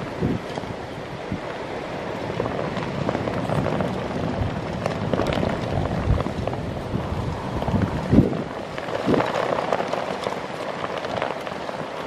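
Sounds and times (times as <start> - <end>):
storm wind gusting: 0.0 - 12.0
wind thumps on microphone: 0.0 - 12.0.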